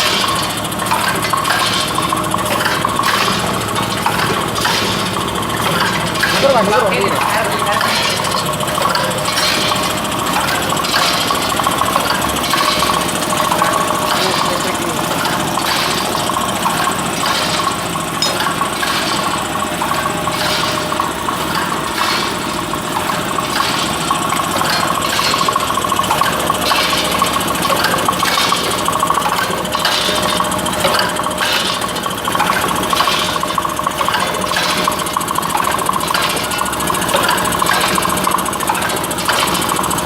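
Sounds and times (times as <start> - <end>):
machine parts clattering: 0.0 - 40.0
packing machine humming: 0.0 - 40.0.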